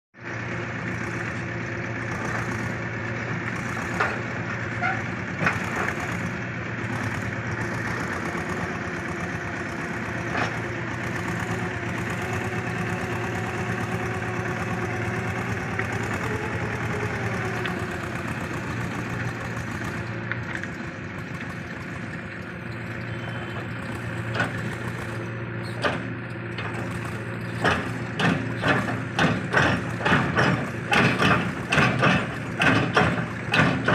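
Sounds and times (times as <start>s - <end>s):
mini tractor running: 0.2s - 33.9s.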